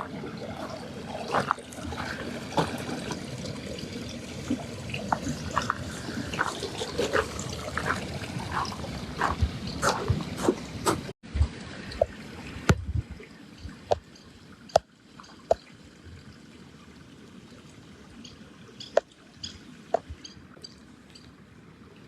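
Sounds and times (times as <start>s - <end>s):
waves lapping at shore: 0.0s - 22.0s.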